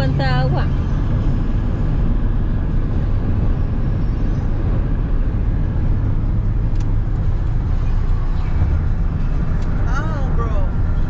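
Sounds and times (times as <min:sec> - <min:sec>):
car driving at highway speed: 0:00.0 - 0:11.0.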